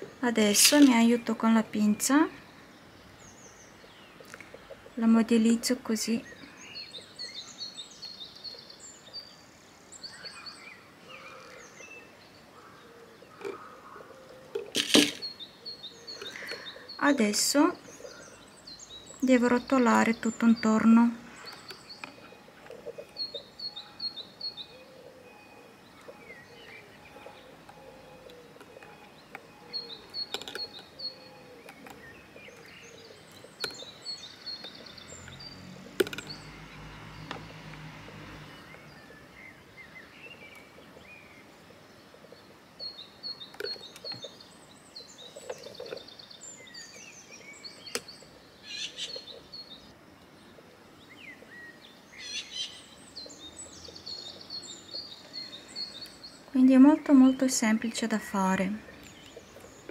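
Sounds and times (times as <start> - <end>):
birds chirping and calling: 0.0 - 59.9.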